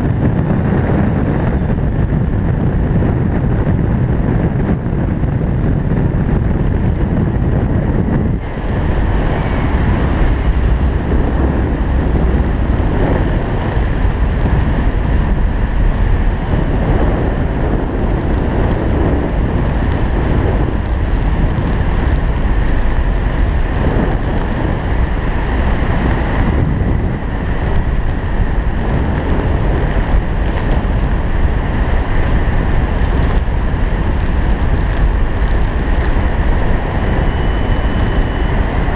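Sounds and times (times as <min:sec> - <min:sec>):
loud wind noise on microphone: 0:00.0 - 0:38.9.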